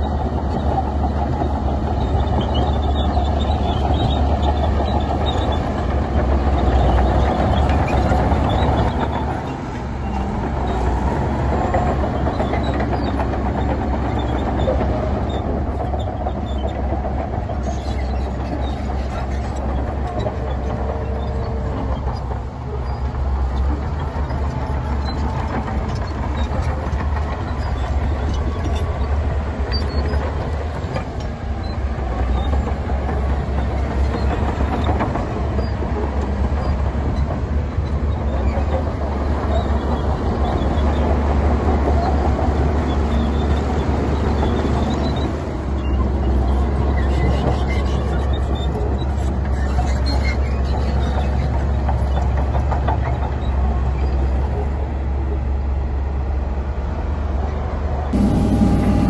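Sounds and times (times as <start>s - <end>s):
heavy diesel machinery rumble: 0.0s - 59.0s.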